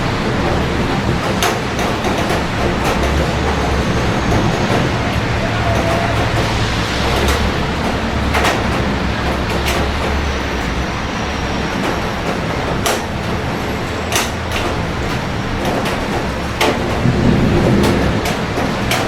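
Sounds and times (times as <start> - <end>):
city traffic rumble: 0.0 - 19.0
heavy rain hiss: 0.0 - 19.0
raindrops ticking: 0.0 - 19.0.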